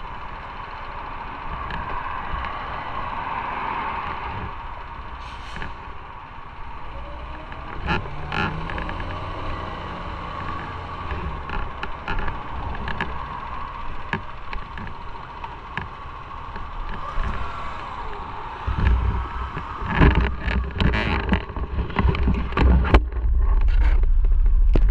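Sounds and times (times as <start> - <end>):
motorcycle engine humming: 0.0 - 24.9
wind rumbling on microphone: 0.6 - 24.9.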